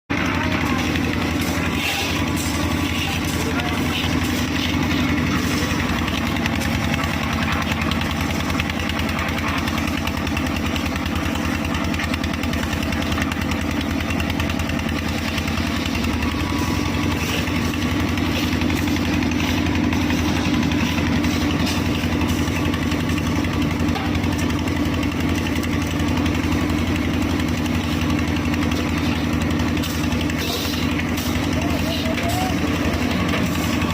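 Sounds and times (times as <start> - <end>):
concrete mixer engine drone: 0.1 - 33.9.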